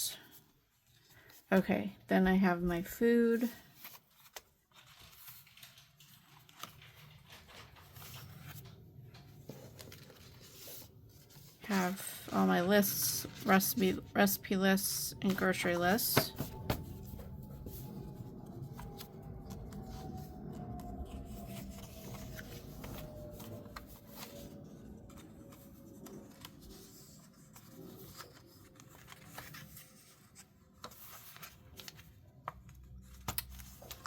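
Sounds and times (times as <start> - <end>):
paper pages rustling: 3.4 - 34.0.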